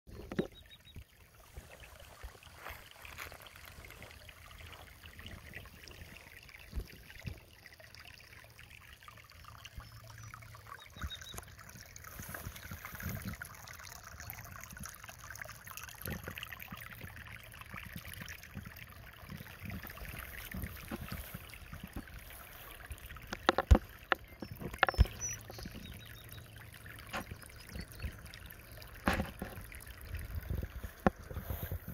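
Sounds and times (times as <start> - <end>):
hushed outdoor noise: 0.1 - 31.9.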